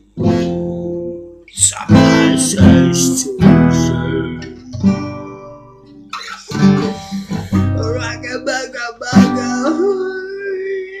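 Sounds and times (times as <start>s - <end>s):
acoustic guitar strumming: 0.0s - 11.0s
person singing: 1.5s - 11.0s.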